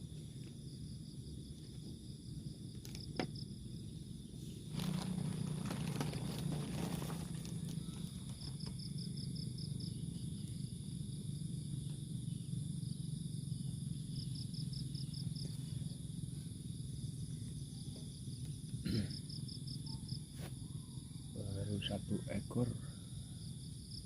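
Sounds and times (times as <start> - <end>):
cricket-like chirp: 0.0 - 24.0
insects trilling: 0.0 - 24.0
low steady hum: 0.0 - 24.0.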